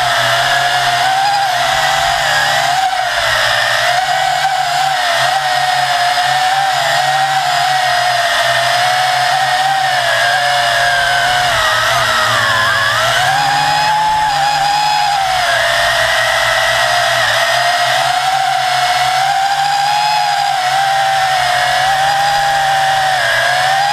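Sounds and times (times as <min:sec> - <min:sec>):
quadcopter motors whining: 0:00.0 - 0:23.9.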